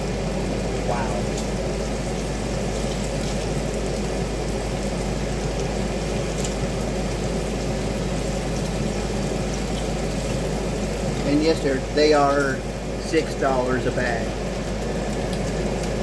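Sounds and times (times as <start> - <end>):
bacon sizzling in a frying pan: 0.0 - 16.0.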